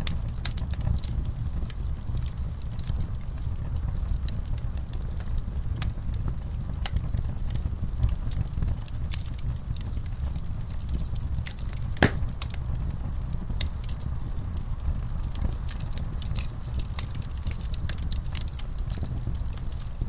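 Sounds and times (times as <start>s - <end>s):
fire crackling and popping: 0.0s - 20.0s
fire rumbling in fireplace: 0.0s - 20.0s.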